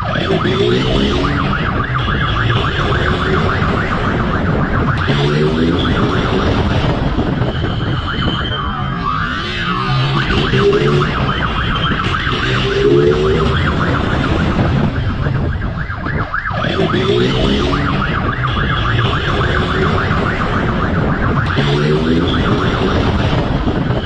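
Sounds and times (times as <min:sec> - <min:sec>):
police siren yelp: 0:00.0 - 0:24.0
vehicle engine and road noise: 0:00.0 - 0:24.0.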